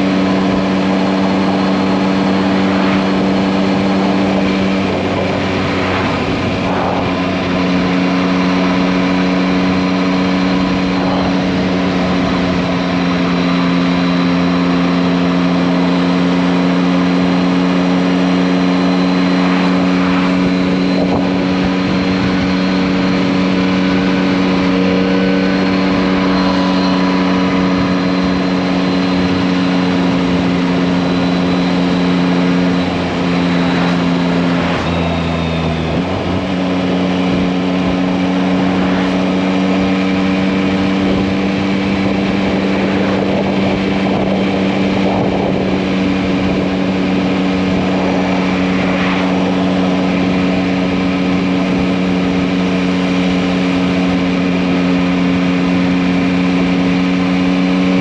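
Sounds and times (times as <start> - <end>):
motorcycle engine running: 0.0 - 58.0
rushing wind noise: 0.0 - 58.0.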